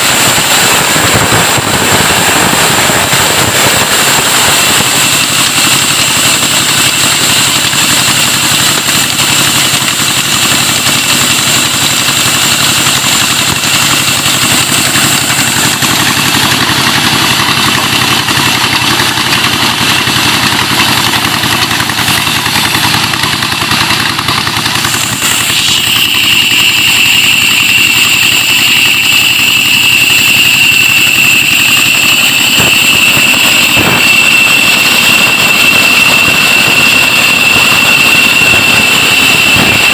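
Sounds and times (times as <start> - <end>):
loud high steady whine: 0.0 - 39.9
stationary diesel engine running: 0.0 - 39.9.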